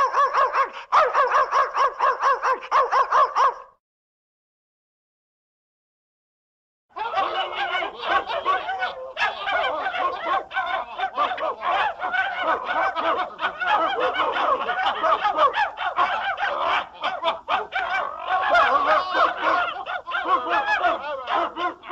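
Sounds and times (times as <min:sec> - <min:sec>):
dogs yelping and howling: 0:00.0 - 0:03.7, 0:07.0 - 0:21.9.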